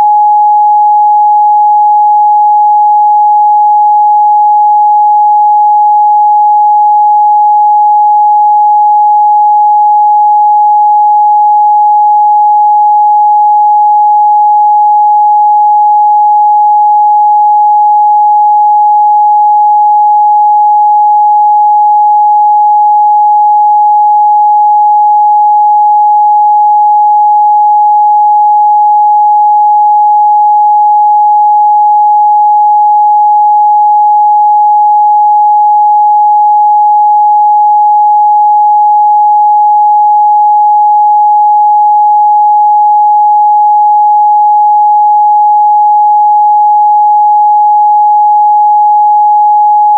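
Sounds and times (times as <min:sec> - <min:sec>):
sine-wave test tone: 0:00.0 - 0:49.9.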